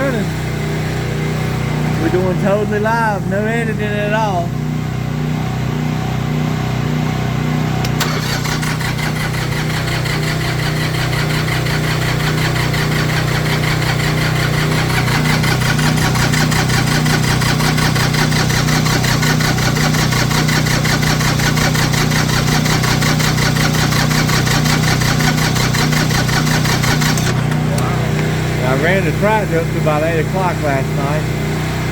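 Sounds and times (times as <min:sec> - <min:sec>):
diesel tractor engine pulsing: 0:00.0 - 0:04.6, 0:07.8 - 0:31.9.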